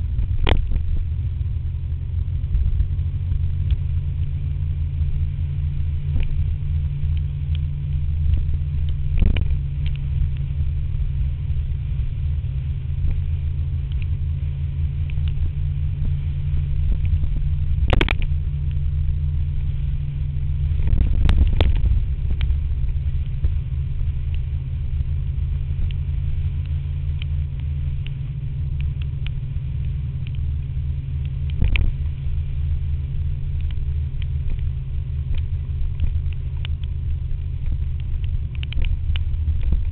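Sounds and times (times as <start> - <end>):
scooter engine rumble: 0.0 - 39.9.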